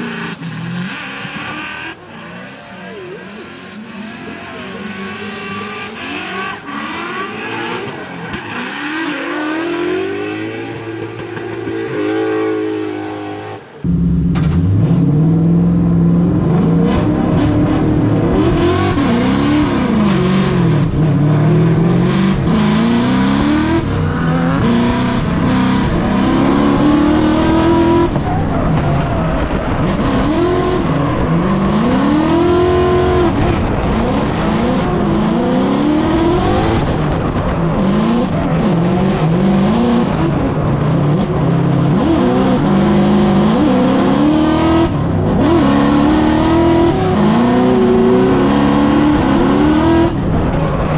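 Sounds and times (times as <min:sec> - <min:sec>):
car engine revving hard: 0:00.0 - 0:50.9.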